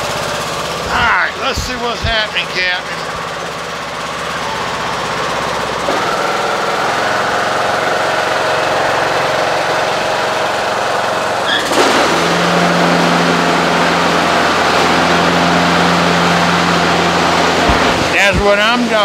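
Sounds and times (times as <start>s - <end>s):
mower blades humming: 0.0s - 19.0s
riding mower engine running: 0.0s - 19.0s.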